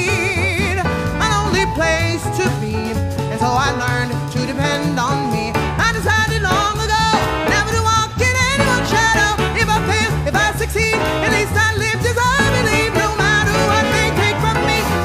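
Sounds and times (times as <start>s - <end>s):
man singing: 0.0s - 15.0s
swing jazz band: 0.0s - 15.0s
walking bass: 0.0s - 15.0s.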